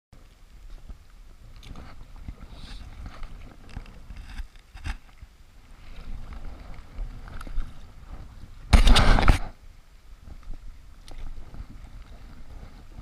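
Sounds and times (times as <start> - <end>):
low wind rumble on microphone: 0.2 - 13.0.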